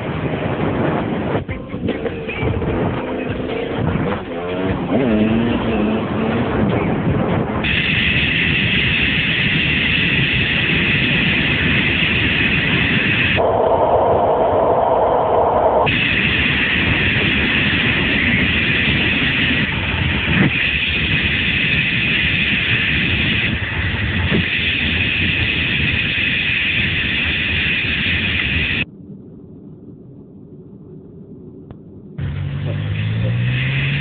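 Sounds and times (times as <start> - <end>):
vehicle rushing and rumbling: 0.0 - 28.9, 32.0 - 34.0.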